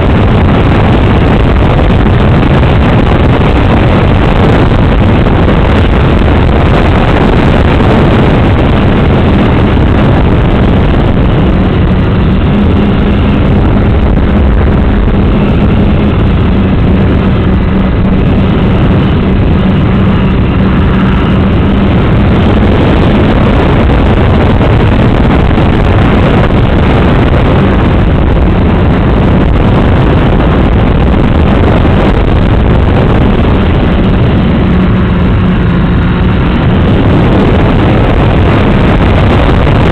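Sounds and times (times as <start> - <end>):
air rushing over microphone: 0.0 - 39.9.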